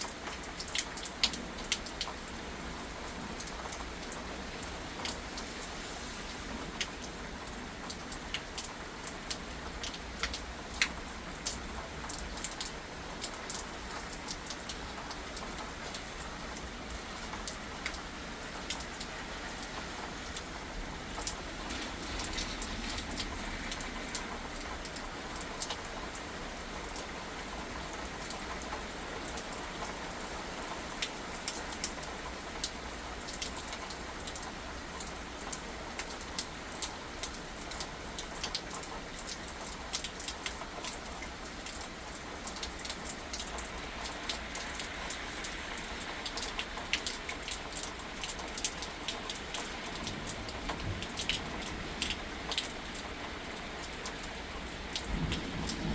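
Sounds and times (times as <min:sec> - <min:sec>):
heavy rain falling: 0:00.0 - 0:55.9
raindrops tapping close by: 0:00.0 - 0:55.9.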